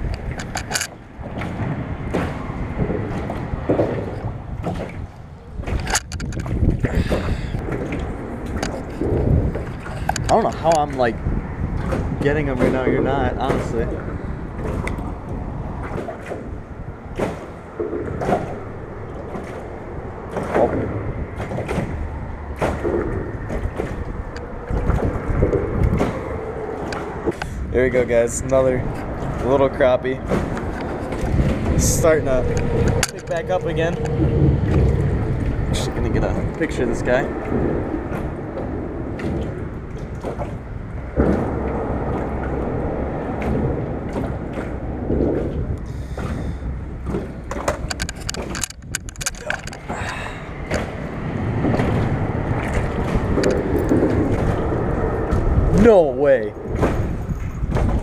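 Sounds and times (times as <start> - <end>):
low microphone rumble: 0.0 - 58.0
water splashing and lapping: 0.0 - 58.0.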